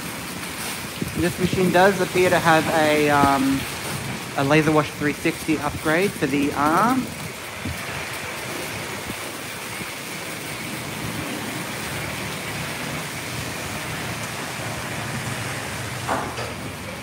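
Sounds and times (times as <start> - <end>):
water spray hissing on car: 0.0 - 17.0.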